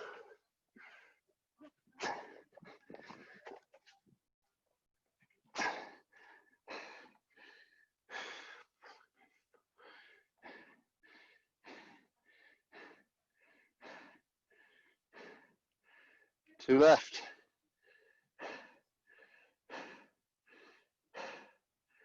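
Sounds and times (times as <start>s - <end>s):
person panting hard: 0.0s - 1.2s, 2.0s - 3.6s, 5.6s - 16.4s, 17.8s - 22.0s.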